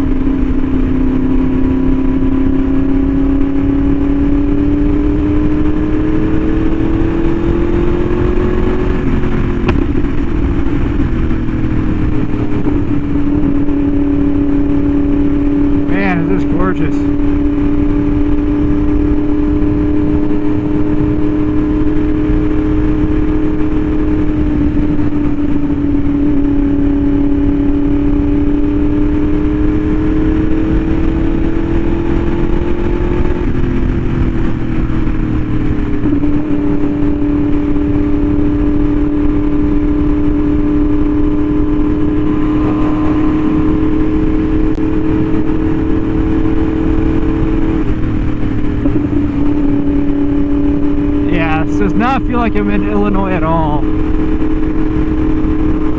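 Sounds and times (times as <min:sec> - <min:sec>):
motorcycle engine cruising: 0:00.0 - 0:55.9
wind rush: 0:00.0 - 0:55.9.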